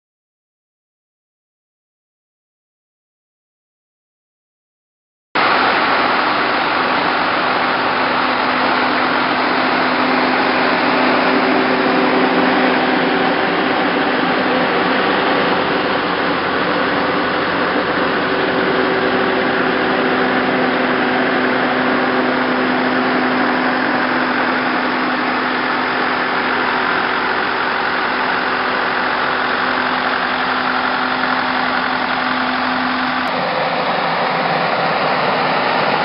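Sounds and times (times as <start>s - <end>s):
sprayer fan rushing air: 5.4s - 36.0s
tractor engine: 5.4s - 36.0s.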